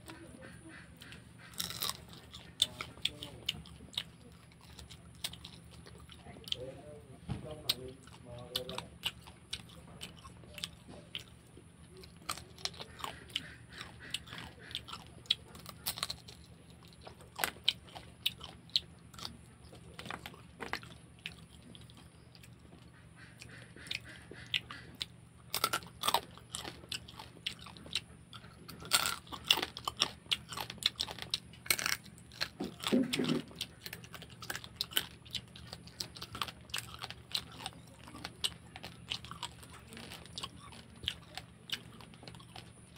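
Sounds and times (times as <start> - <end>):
chewing: 0.0 - 42.9
crab shell cracking and crunching: 1.1 - 6.7, 7.5 - 22.7, 23.4 - 42.9.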